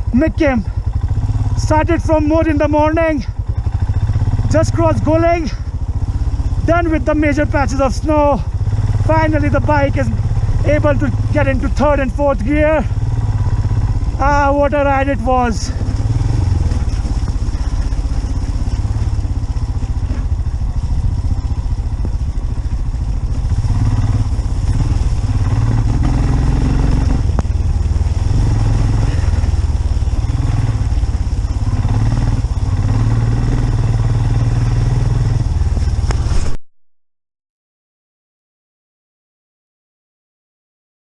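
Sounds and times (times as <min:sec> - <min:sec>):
motorcycle engine running: 0:00.0 - 0:36.6.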